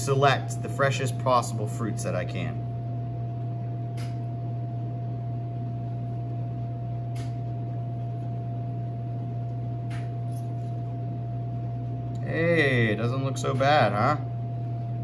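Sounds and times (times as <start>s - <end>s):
kitchen machine hum: 0.0s - 15.0s.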